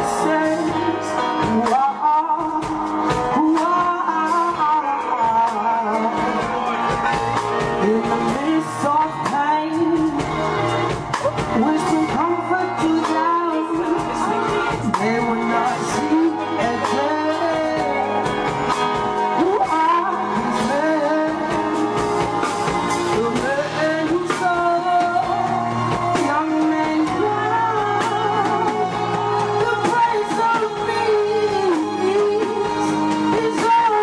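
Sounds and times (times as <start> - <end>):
woman singing into a microphone: 0.0 - 34.0.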